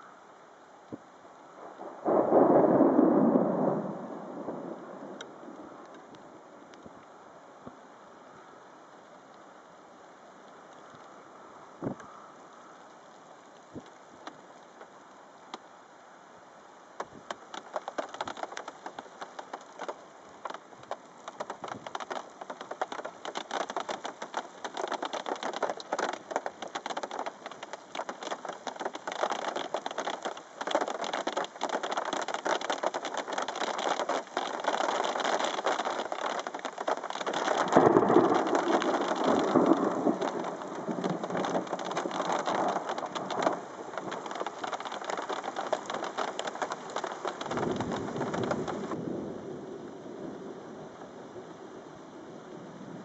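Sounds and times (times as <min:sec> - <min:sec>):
deep rush of rain: 0:00.0 - 0:53.0
rain drops ticking on a car: 0:00.0 - 0:53.0.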